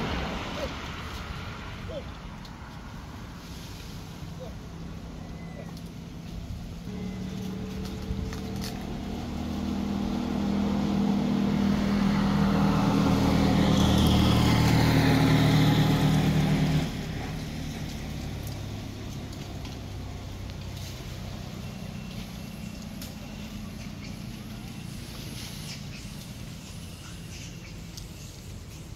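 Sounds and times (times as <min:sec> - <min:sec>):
vehicle engine running: 0:00.0 - 0:28.9.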